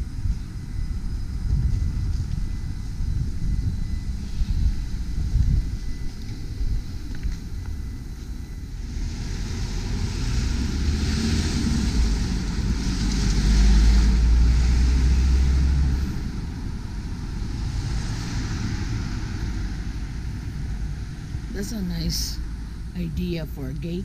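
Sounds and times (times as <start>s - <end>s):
low rumble: 0.0s - 24.0s
road traffic passing: 0.0s - 24.0s.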